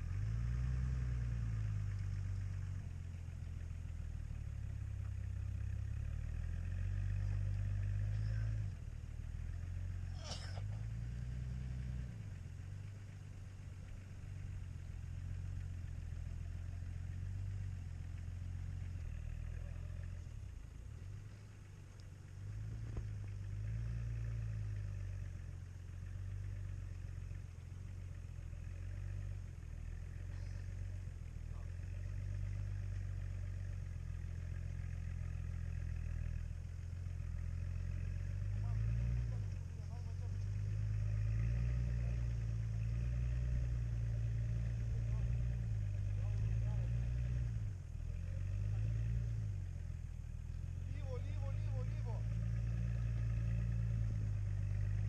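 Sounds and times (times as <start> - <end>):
off-road engine running low: 0.0 - 55.0.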